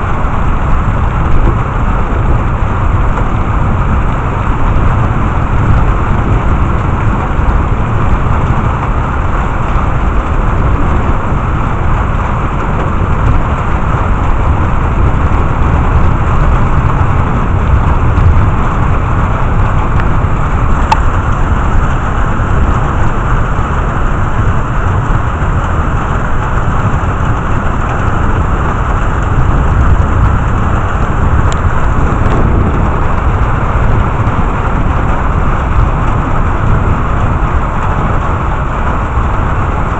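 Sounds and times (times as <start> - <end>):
heavy rain: 0.0 - 39.9
low rumble: 0.0 - 39.9.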